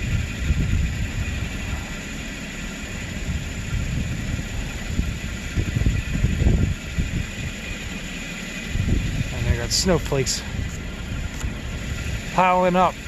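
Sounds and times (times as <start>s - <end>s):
car engine idling unevenly: 0.0s - 13.0s.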